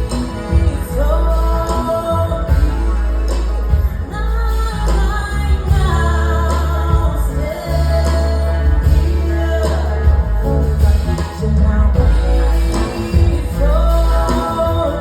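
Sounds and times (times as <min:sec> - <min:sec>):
instrumental accompaniment with bass: 0:00.0 - 0:15.0
woman singing: 0:00.0 - 0:15.0.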